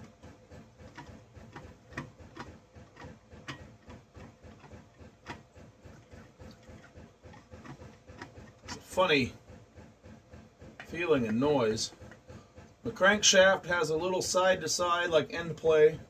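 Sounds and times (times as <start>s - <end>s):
crankshaft clicking in bearings: 0.0s - 16.0s.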